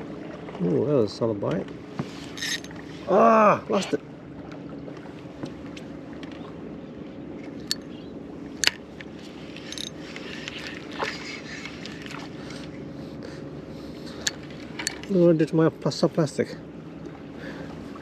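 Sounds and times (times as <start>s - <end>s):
outboard motor humming: 0.0s - 18.0s.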